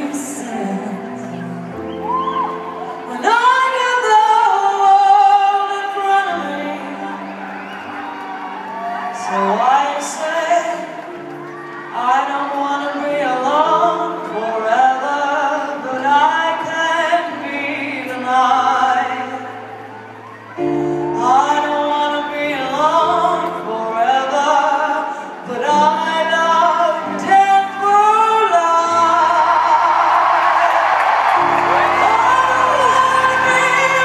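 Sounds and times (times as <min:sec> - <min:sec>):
woman singing a slow ballad: 0:00.0 - 0:07.4, 0:09.1 - 0:34.0.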